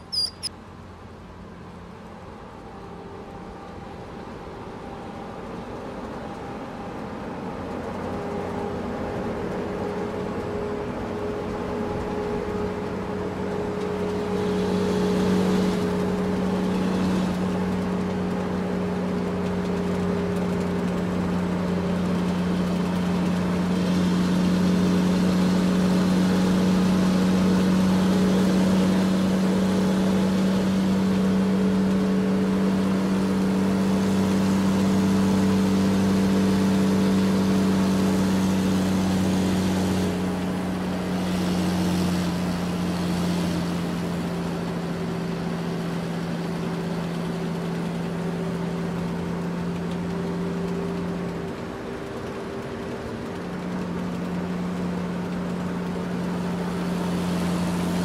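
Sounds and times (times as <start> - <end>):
engine hum: 0.0 - 58.0.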